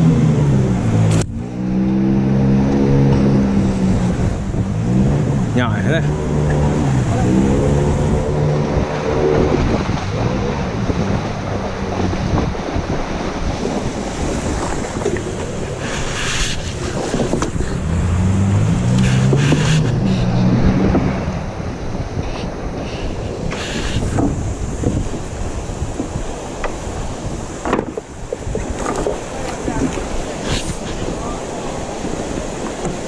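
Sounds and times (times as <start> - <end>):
water splashing along hull: 0.0 - 33.0
wind noise on microphone: 0.0 - 33.0.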